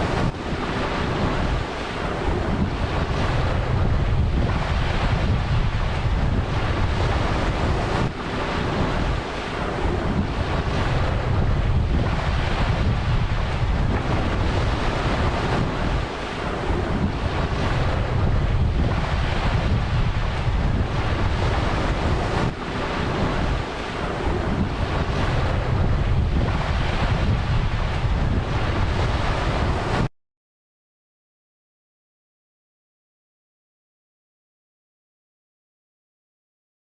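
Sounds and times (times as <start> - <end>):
sea waves breaking: 0.0 - 30.1
wind buffeting microphone: 0.0 - 30.1.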